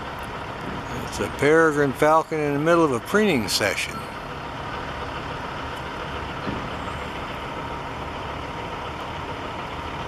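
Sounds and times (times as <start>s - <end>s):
distant road traffic rumble: 0.0s - 10.0s.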